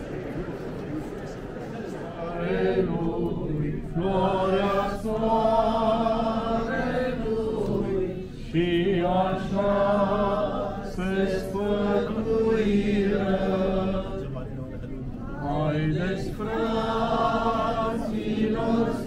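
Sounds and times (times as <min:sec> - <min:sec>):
group chanting a hymn: 0:01.9 - 0:14.8, 0:15.4 - 0:19.0.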